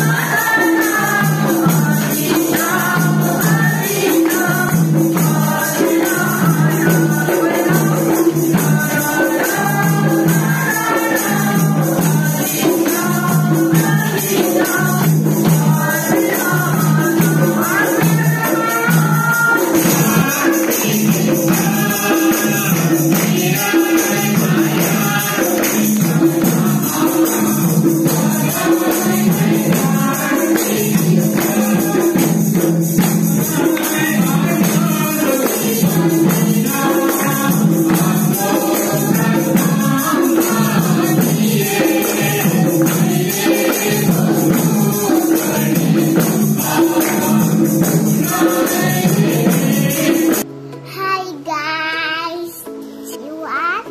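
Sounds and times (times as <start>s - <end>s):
group singing in unison: 0.0s - 50.5s
tambourine shaken: 0.0s - 50.5s
held musical accompaniment: 0.0s - 53.9s.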